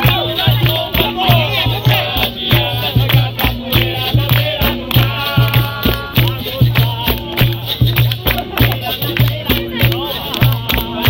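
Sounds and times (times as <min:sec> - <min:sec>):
berimbau and percussion: 0:00.0 - 0:11.0
voices singing: 0:00.0 - 0:11.0.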